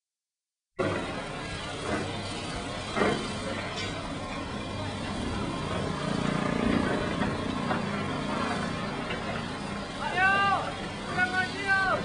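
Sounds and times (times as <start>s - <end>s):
engine humming: 0.8s - 12.0s.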